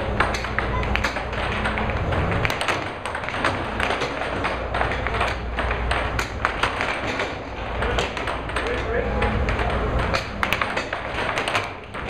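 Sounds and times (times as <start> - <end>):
air hockey puck clacking: 0.0 - 12.0.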